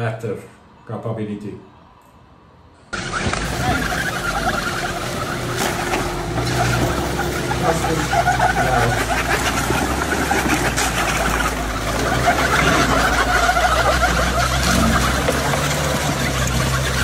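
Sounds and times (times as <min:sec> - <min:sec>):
low engine note: 0:03.0 - 0:17.0
tracks churning: 0:03.0 - 0:17.0
water sloshing in mud: 0:03.3 - 0:17.0.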